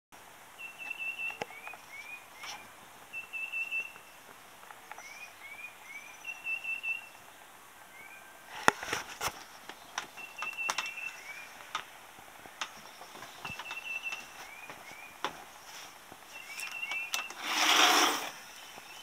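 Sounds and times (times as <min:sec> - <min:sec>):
birds chirping and trilling: 0:00.6 - 0:15.5, 0:16.2 - 0:19.0.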